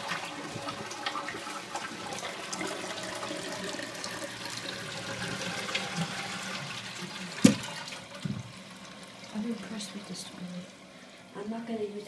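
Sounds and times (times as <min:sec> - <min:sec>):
toilet tank refilling: 0:00.0 - 0:11.3.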